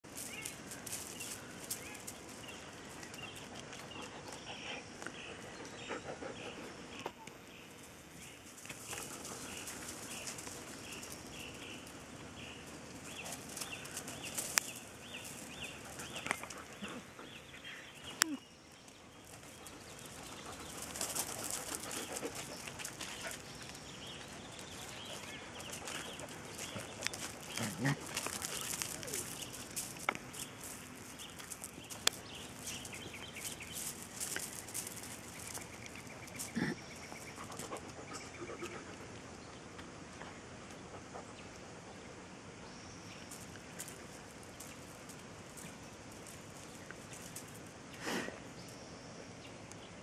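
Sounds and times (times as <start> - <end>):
puppy paws scuffling on gravel: 0.0 - 5.8, 6.9 - 38.0, 43.0 - 48.8
small birds chirping: 0.0 - 50.0.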